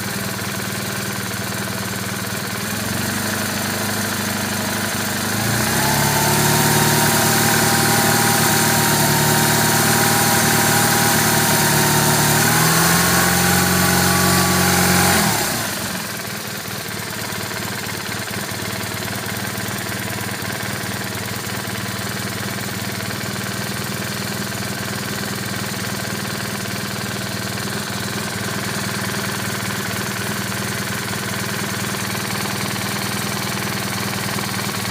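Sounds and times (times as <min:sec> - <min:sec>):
motorcycle engine idling: 0:00.0 - 0:34.9
motorcycle engine revving: 0:02.5 - 0:34.9.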